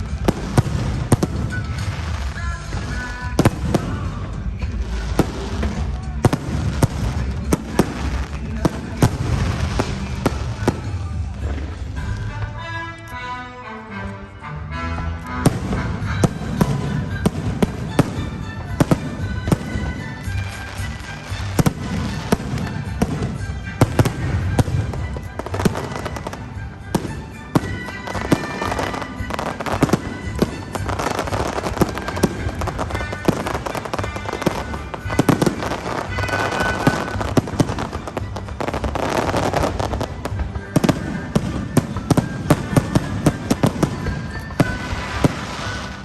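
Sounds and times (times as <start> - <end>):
fireworks bangs and crackles: 0.0 - 12.7, 15.3 - 46.0
music playing: 0.0 - 46.0.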